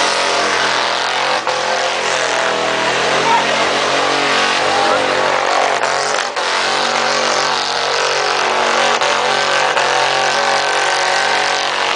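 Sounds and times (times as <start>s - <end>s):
truck engine at high revs: 0.0s - 11.9s.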